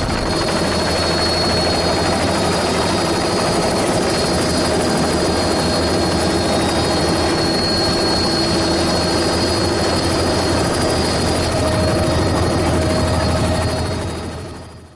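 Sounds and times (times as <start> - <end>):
helicopter engine and rotor: 0.0 - 14.9.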